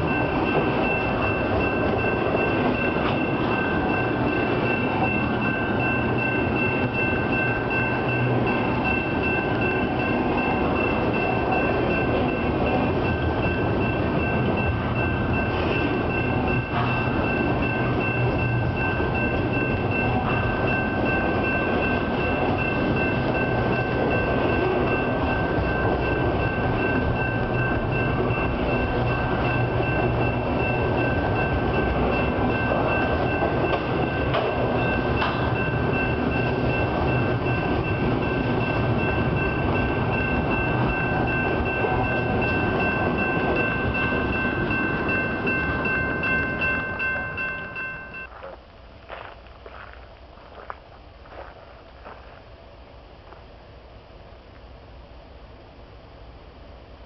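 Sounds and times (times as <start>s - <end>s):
crossing warning bell ringing: 0.0s - 48.6s
train wheels rumbling on rails: 0.0s - 54.8s.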